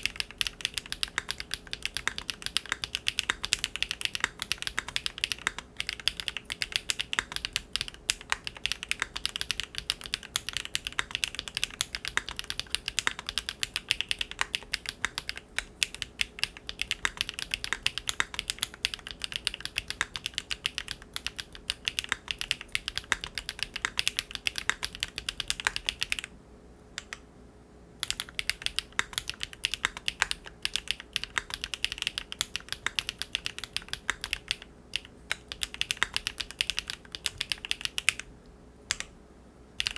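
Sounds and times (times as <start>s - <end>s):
fast mechanical keyboard typing: 0.0s - 26.3s, 28.0s - 38.3s.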